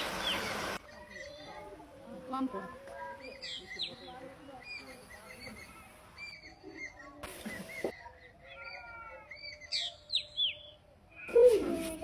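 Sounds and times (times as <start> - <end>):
small birds chirping: 0.0 - 1.9, 3.0 - 11.4.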